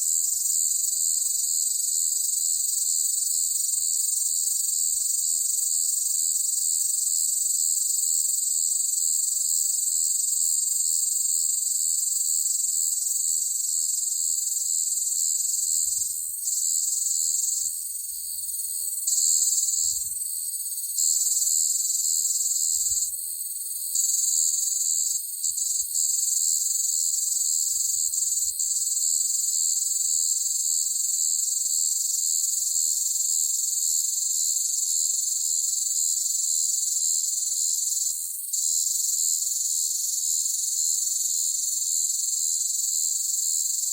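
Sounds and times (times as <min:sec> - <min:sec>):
cicadas buzzing: 0:00.0 - 0:09.0, 0:09.6 - 0:43.8.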